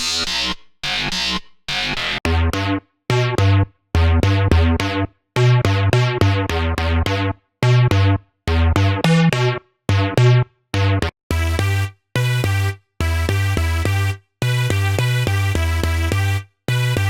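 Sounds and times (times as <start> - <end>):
synthesizer bass riff: 0.0 - 17.0.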